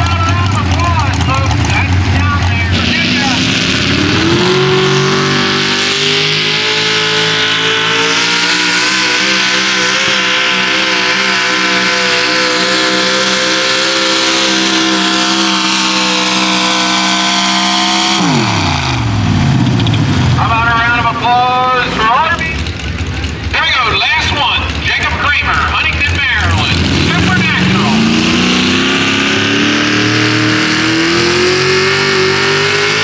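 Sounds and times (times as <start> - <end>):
truck engine revving high: 0.0 - 33.0.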